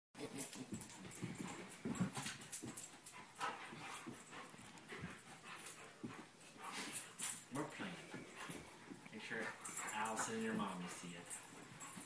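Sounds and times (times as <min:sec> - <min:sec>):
dogs panting: 0:00.2 - 0:12.0
dogs scuffling on carpet: 0:00.2 - 0:12.0.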